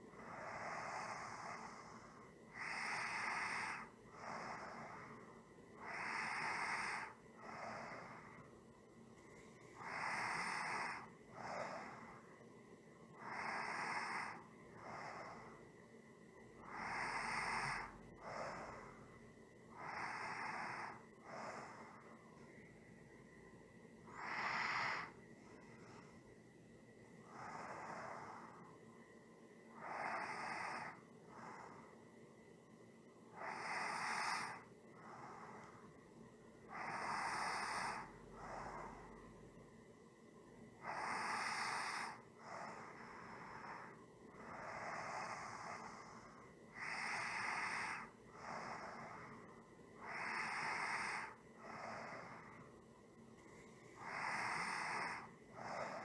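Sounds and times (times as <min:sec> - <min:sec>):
person breathing slowly: 0:00.0 - 0:29.0, 0:29.6 - 0:32.3, 0:33.3 - 0:39.6, 0:40.8 - 0:56.0.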